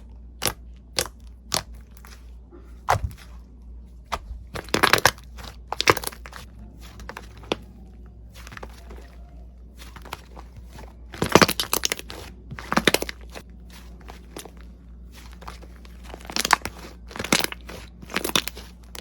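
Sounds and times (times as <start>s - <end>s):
crunchy slime crackling: 0.0s - 19.0s.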